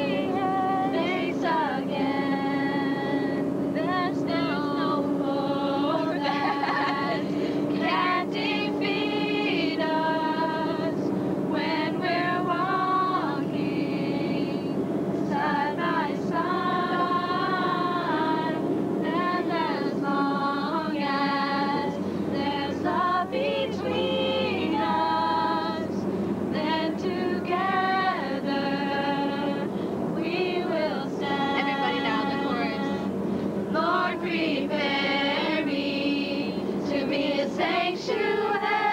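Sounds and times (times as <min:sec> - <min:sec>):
woman singing slow song: 0:00.0 - 0:38.9.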